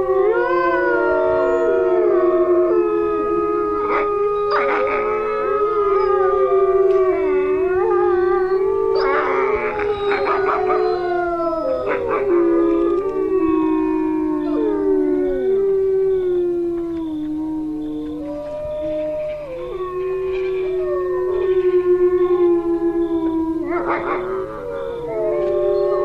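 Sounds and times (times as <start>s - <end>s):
wolves howling: 0.0s - 26.0s.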